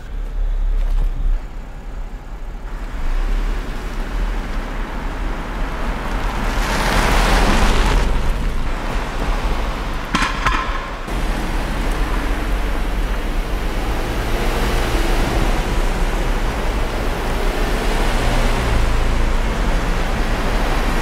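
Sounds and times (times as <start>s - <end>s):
traffic rumble: 0.0s - 21.0s
car passing by: 2.8s - 21.0s.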